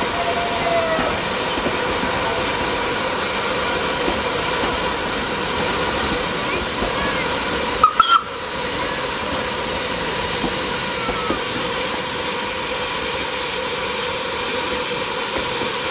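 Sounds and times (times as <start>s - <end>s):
steam hissing from steam engine: 0.0s - 15.9s.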